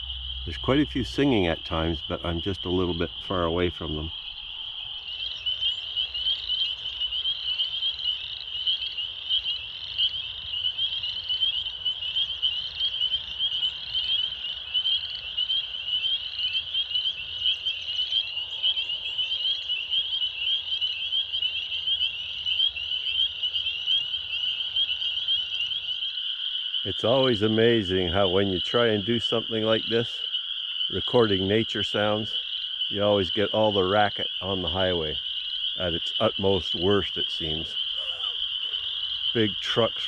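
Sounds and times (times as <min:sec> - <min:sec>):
spring peepers chorus: 0:00.0 - 0:40.0
toads trilling: 0:00.0 - 0:40.0.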